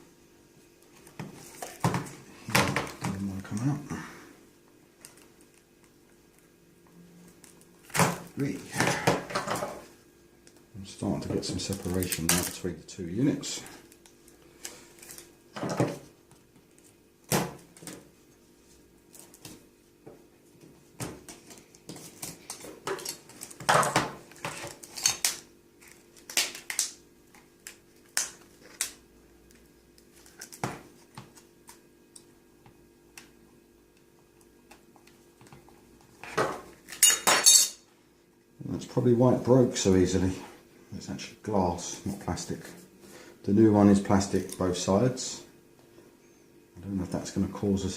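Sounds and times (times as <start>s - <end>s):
faint steady hum: 0.0s - 47.9s.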